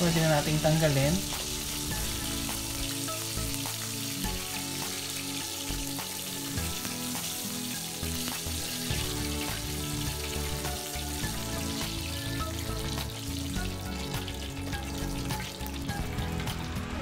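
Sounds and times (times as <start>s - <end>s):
chicken wings sizzling in oil: 0.0s - 17.0s.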